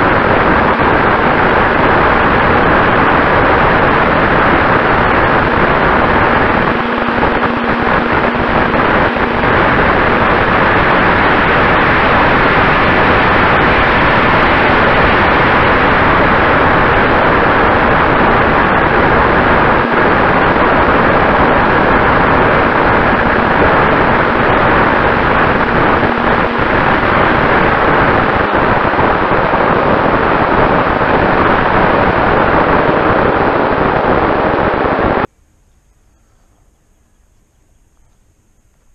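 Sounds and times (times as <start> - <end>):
wind and propeller noise: 0.0 - 35.3
faint steady whine: 0.0 - 38.9.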